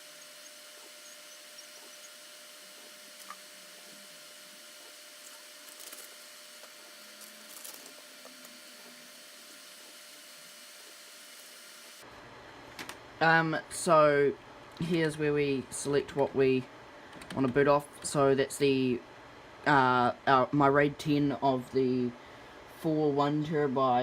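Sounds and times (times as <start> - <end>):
server cooling fans whirring: 0.0 - 24.0.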